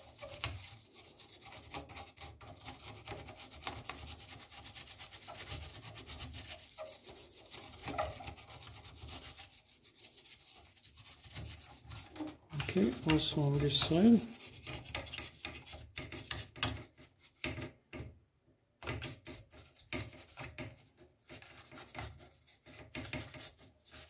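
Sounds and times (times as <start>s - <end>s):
scrubbing on circuit board: 0.0s - 17.8s, 18.8s - 24.0s.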